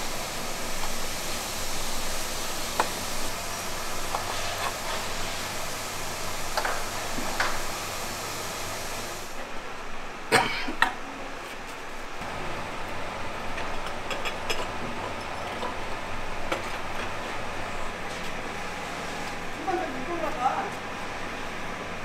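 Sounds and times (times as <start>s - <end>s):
factory background noise: 0.0s - 22.0s.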